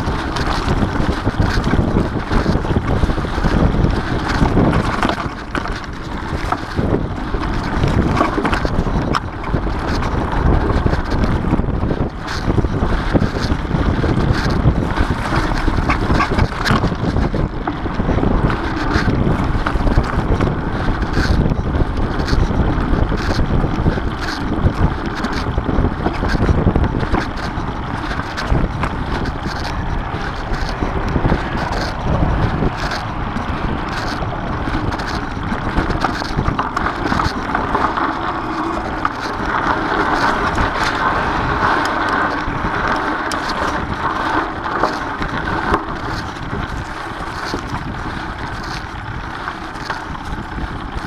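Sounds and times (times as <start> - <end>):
bike clicks and rattles: 0.0 - 51.0
bike rolling on dirt trail: 0.0 - 51.0
wind on microphone: 0.0 - 51.0.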